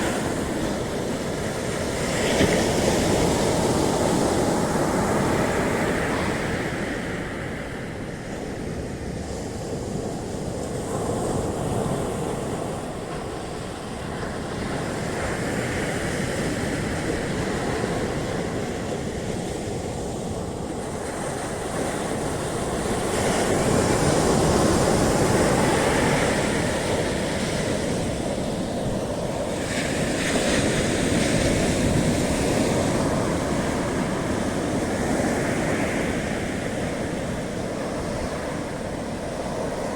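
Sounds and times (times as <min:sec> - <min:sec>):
ocean waves breaking on beach: 0:00.0 - 0:39.9
wind noise on microphone: 0:00.0 - 0:39.9.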